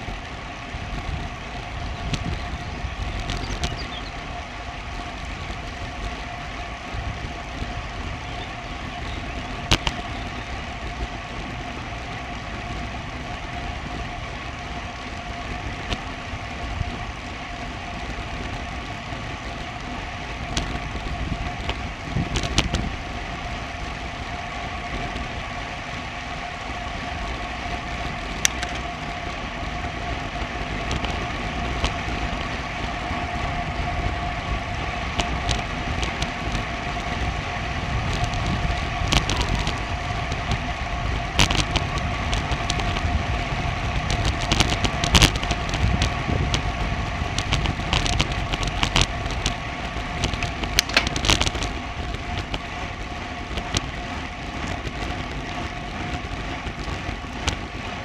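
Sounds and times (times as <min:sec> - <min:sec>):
bicycle clicks and knocks: 0:00.0 - 0:58.0
bicycle road rumble: 0:00.0 - 0:58.0
faint constant whine: 0:00.0 - 0:58.0
wind: 0:00.0 - 0:58.0.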